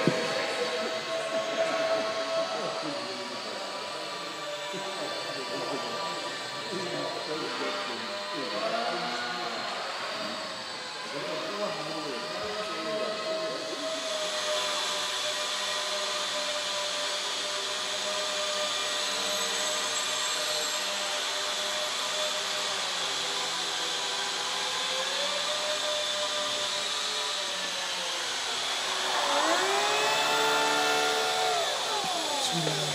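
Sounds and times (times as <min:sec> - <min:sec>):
model plane motor whining: 0:00.0 - 0:32.9.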